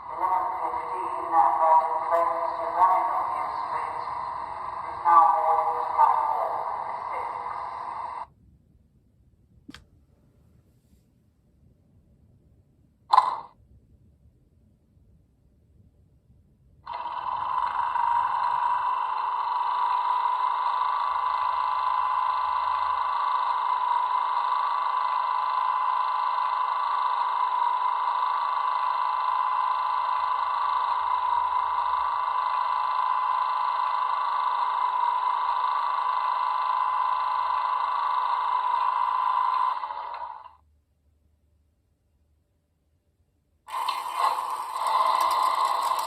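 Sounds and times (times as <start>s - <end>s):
locomotive hum with whine: 0.0s - 9.8s, 15.6s - 40.7s, 43.7s - 46.0s.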